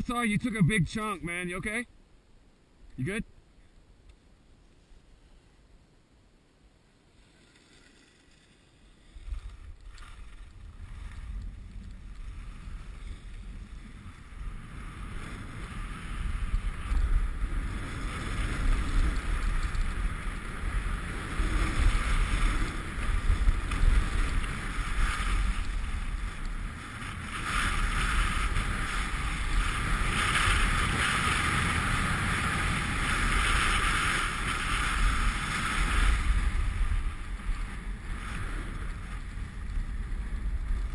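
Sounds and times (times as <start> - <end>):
snow scraping: 7.1 - 40.3.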